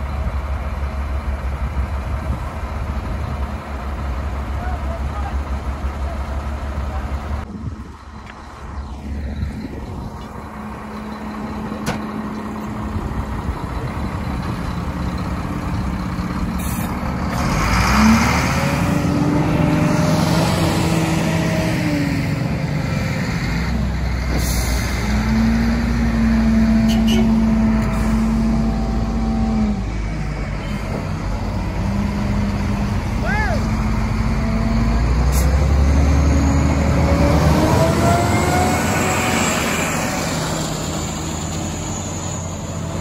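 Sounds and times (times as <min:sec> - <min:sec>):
heavy diesel engines revving: 0:00.0 - 0:43.0.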